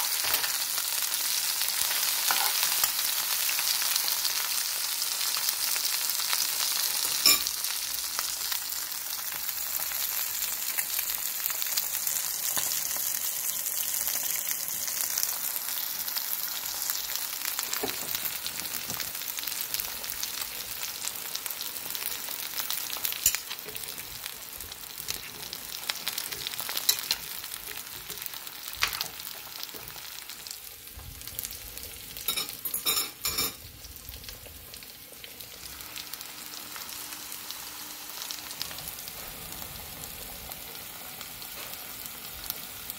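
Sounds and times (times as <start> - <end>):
eggs sizzling in a pan: 0.0 - 42.9.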